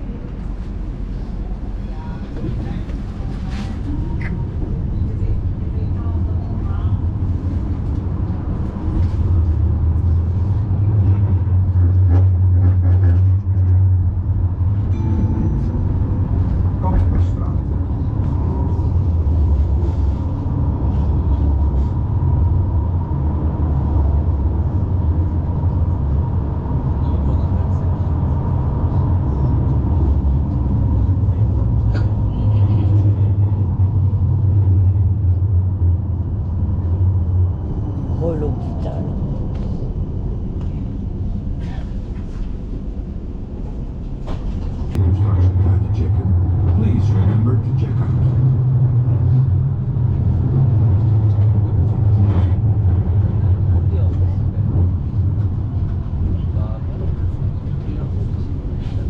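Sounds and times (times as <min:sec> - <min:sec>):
tram rumbling on rails: 0:00.0 - 0:59.0.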